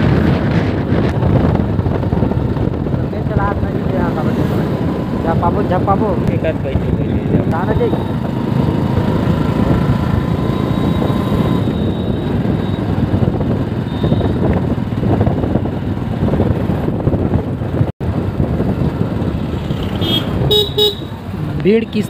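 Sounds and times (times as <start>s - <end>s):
wind on microphone: 0.0s - 21.5s
motorcycle engine rumble: 0.0s - 22.0s.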